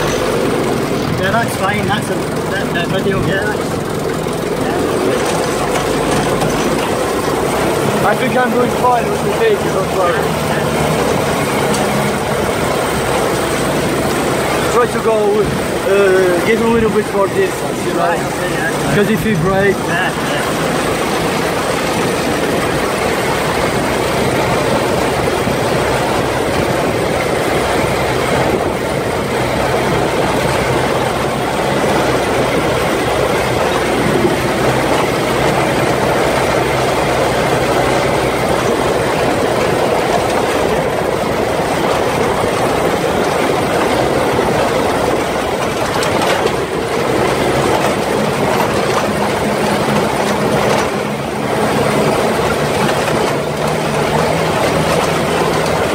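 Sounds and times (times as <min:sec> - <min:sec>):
buggy engine running: 0:00.0 - 0:55.9
tyres rumbling on dirt track: 0:00.0 - 0:55.9.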